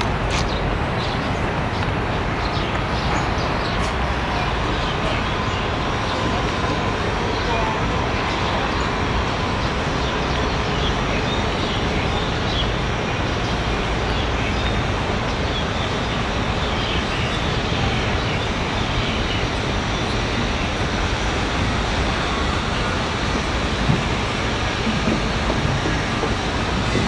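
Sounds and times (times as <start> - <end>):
distant city traffic roar: 0.0 - 27.0.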